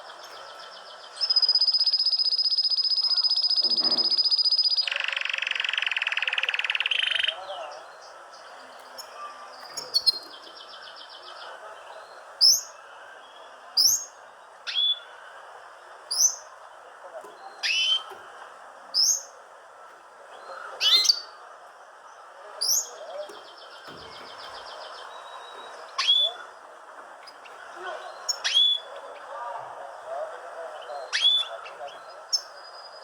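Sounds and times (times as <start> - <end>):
steady background hiss: 0.0 - 3.5, 6.5 - 33.0
small birds chirping: 0.0 - 33.0.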